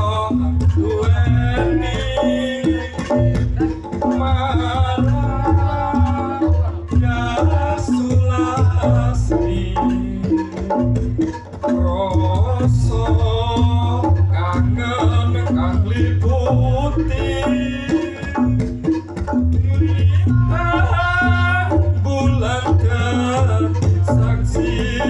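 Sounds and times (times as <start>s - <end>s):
gamelan music with drums: 0.0s - 25.0s.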